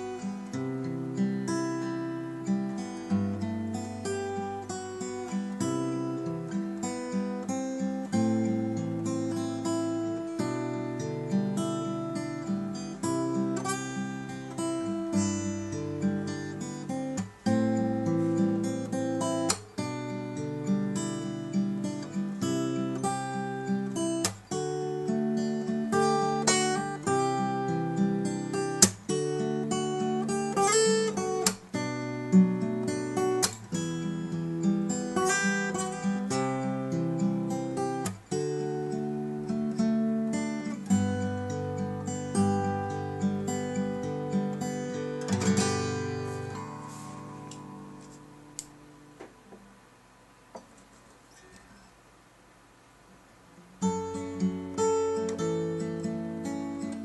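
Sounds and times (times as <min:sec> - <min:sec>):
nylon-string guitar chords: 0:00.0 - 0:49.7, 0:53.8 - 0:57.0.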